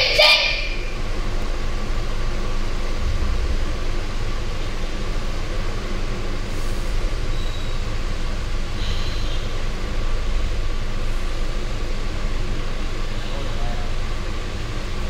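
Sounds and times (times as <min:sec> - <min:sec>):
fans humming: 0:00.0 - 0:15.0.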